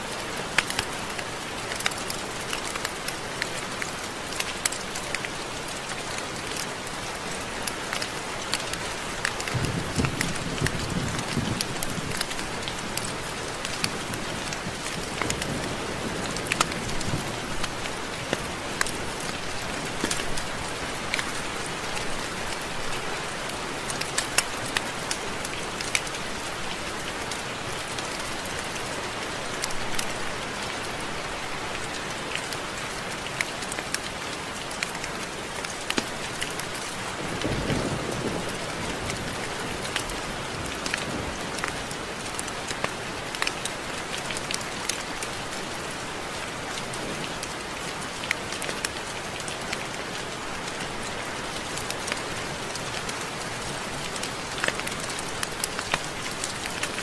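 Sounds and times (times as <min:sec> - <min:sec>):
steady rain: 0:00.0 - 0:57.0
raindrops ticking: 0:00.1 - 0:57.0.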